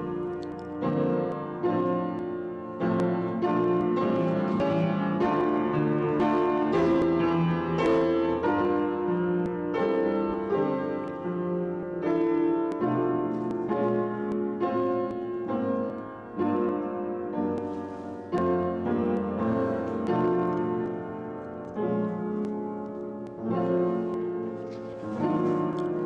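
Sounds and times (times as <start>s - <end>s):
slow classical piano piece: 0.0s - 26.0s.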